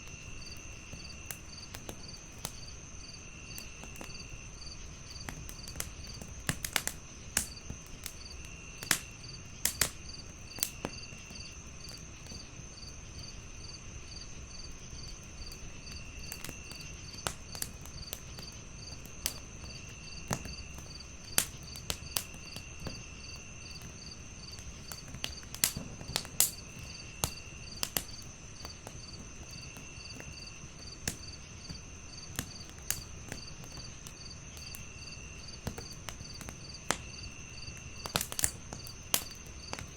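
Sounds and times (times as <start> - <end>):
continuous high insect tone: 0.0 - 39.9
crickets chirping: 0.0 - 39.9
wood fire crackling and popping: 0.0 - 39.9.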